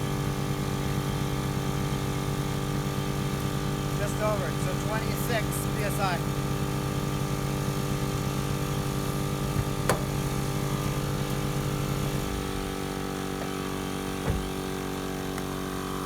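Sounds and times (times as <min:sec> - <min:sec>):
air compressor motor hum: 0:00.0 - 0:16.0.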